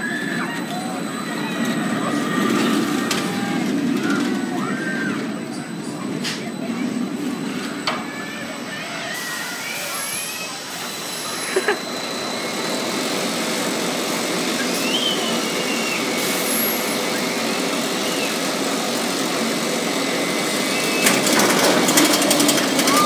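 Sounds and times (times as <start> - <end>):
roller coaster rolling on track: 0.0 - 23.0.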